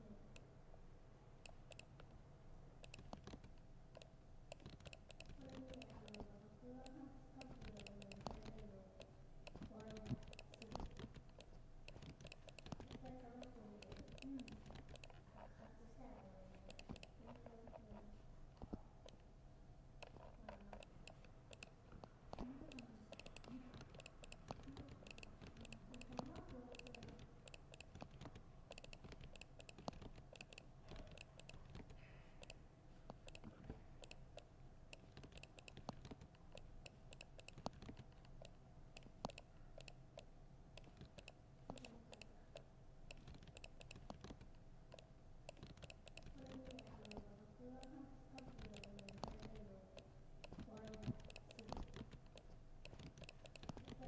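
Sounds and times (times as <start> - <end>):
laptop keyboard typing: 1.4 - 2.2, 2.8 - 19.3, 20.0 - 54.0.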